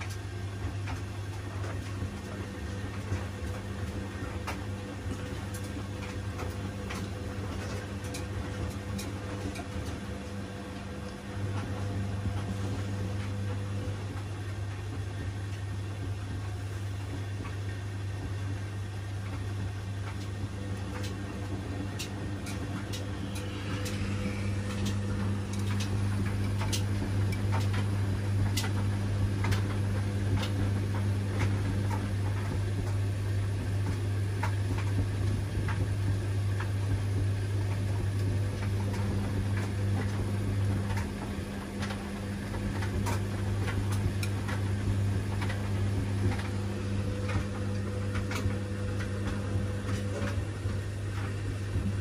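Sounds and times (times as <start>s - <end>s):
washing machine humming: 0.0s - 52.0s.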